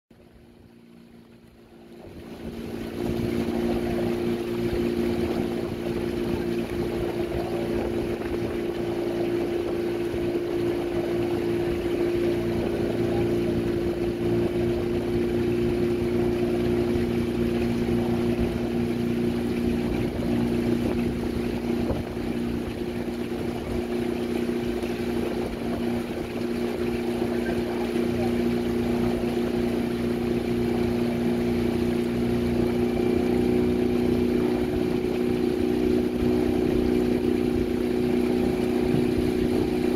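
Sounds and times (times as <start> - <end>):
outboard motor humming: 0.1 - 39.9
wind buffeting microphone: 1.9 - 39.9.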